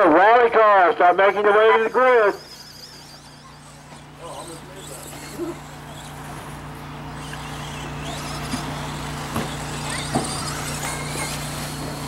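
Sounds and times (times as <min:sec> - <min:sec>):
steady low hum: 0:00.0 - 0:12.0
toy car motors whining: 0:00.2 - 0:12.0.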